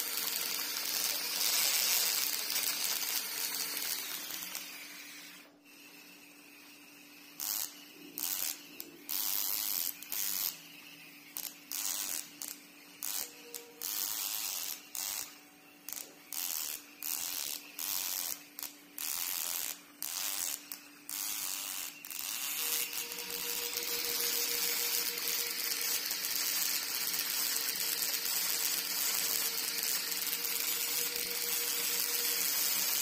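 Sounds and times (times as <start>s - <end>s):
toy motors whirring: 0.0s - 33.0s.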